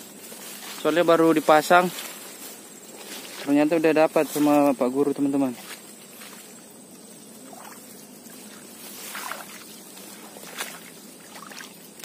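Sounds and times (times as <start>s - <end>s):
grass stems swishing: 0.0s - 4.9s, 5.5s - 6.6s, 7.5s - 12.0s
footsteps through wet grass: 0.0s - 12.0s.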